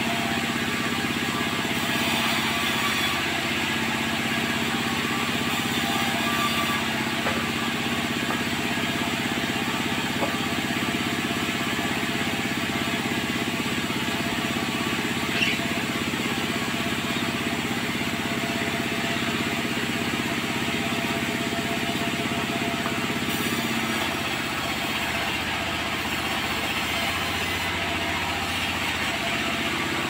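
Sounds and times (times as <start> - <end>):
sawmill machinery droning: 0.0 - 30.0.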